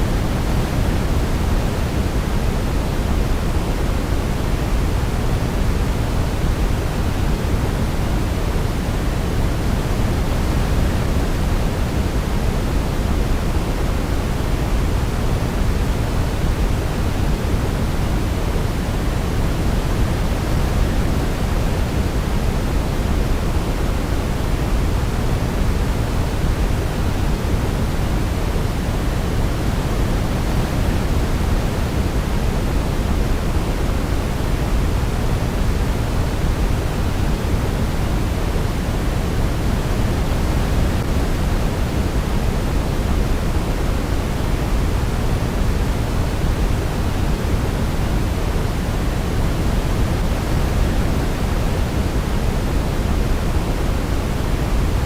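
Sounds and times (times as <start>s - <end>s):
steady pink noise: 0.0s - 55.0s.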